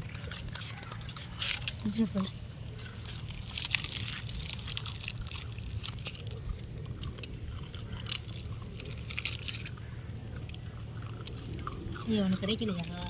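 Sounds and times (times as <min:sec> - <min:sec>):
low steady hum: 0:00.0 - 0:13.0
puppies crunching dry biscuits: 0:00.0 - 0:13.0.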